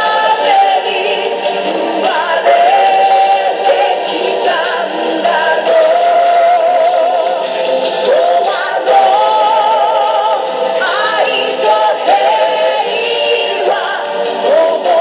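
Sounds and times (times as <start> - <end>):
dance music with sung melody: 0.0 - 15.0.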